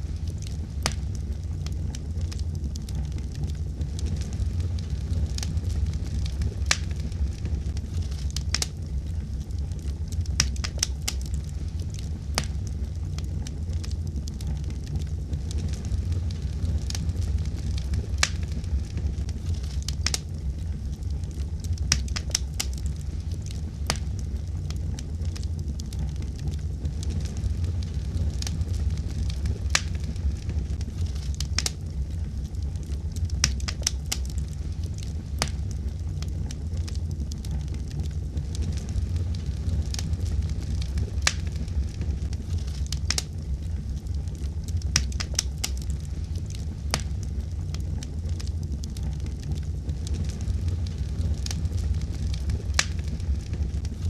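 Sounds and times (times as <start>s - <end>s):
fire low rumble: 0.0s - 54.0s
wood fire crackling and popping: 0.0s - 54.0s.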